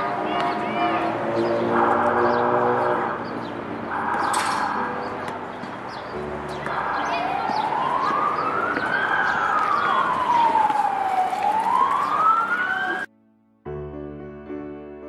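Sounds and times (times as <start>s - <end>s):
city street noise: 0.0s - 13.1s
emergency siren wailing: 0.0s - 13.1s
soft piano music: 0.0s - 15.0s.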